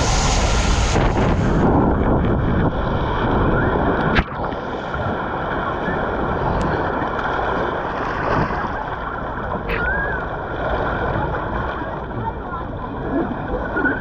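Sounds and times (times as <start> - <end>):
water rushing and spraying: 0.0 - 11.7.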